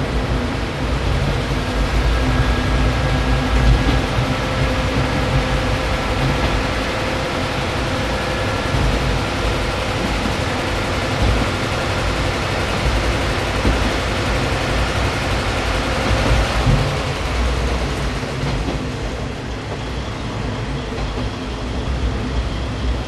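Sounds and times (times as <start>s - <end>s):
diesel railcar engine drone: 0.0s - 23.0s.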